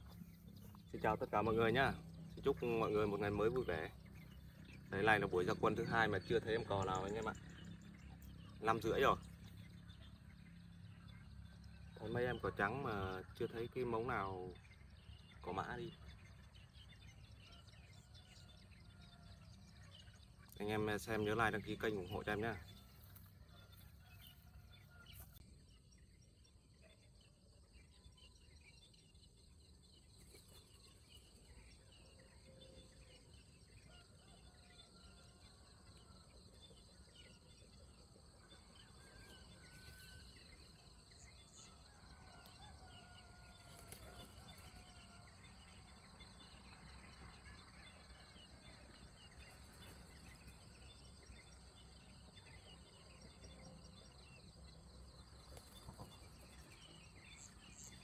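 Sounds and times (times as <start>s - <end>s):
distant birds calling: 0.0s - 58.0s.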